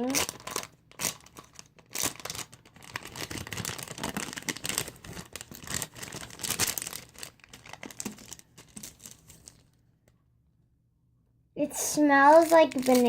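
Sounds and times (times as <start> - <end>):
packaging crinkling and rustling: 0.0 - 9.8, 12.2 - 13.0.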